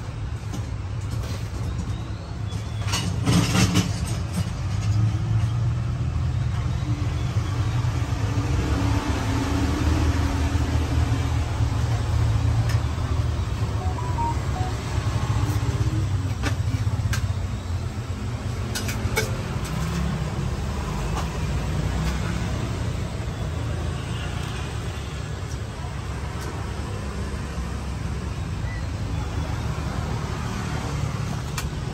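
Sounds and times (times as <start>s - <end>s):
road traffic rumble: 0.0s - 31.9s.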